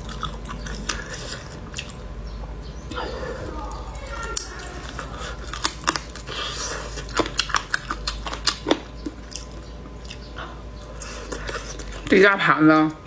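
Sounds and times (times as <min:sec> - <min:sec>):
wet chewing and biting: 0:00.0 - 0:02.1, 0:03.7 - 0:12.2.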